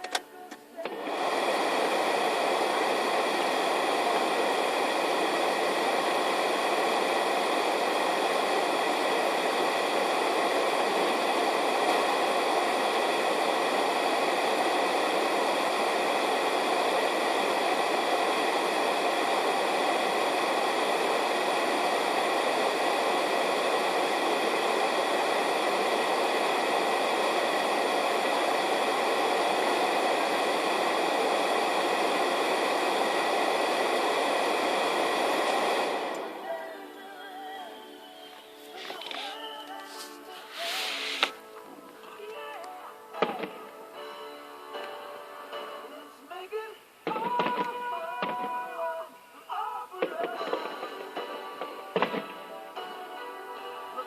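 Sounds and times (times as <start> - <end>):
loud steady hiss: 0.0 - 54.0.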